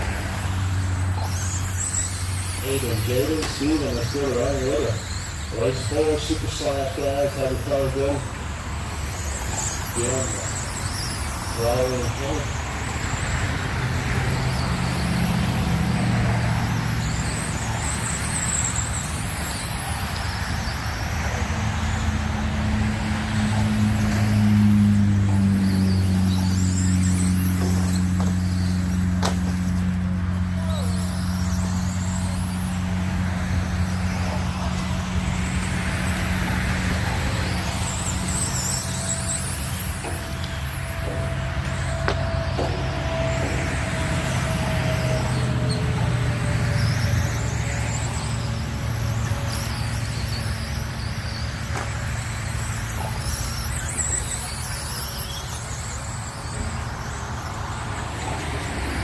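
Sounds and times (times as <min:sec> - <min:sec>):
rc car motors whining: 0:00.0 - 0:59.0.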